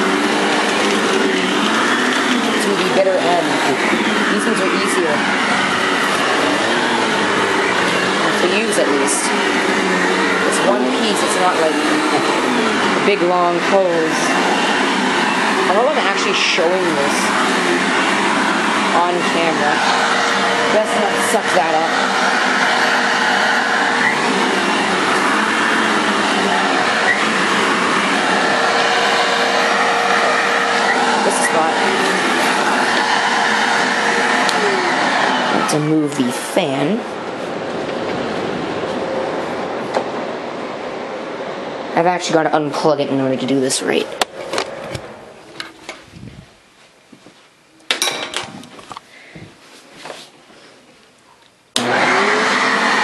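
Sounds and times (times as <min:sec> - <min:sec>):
vacuum cleaner running: 0:00.0 - 0:46.6, 0:51.8 - 0:53.0.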